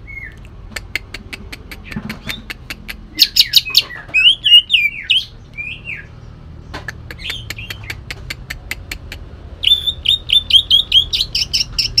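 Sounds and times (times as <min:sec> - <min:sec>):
bird singing harsh song: 0:00.0 - 0:12.0.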